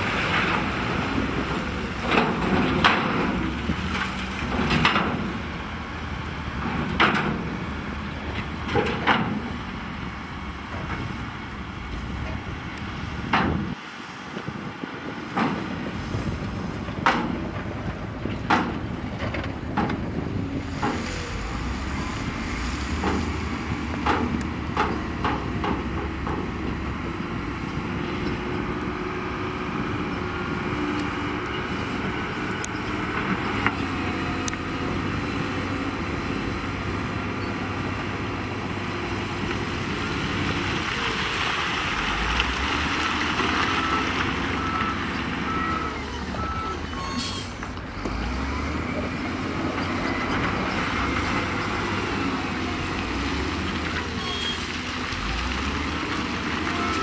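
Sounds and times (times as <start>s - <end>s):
diesel construction machine running: 0.0s - 57.0s.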